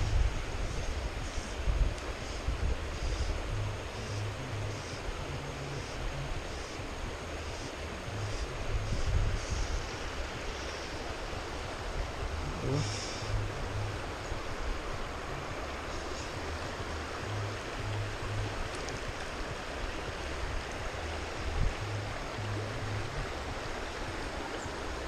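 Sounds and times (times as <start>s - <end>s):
water rushing: 0.0s - 25.0s
wind buffeting microphone: 0.0s - 25.0s.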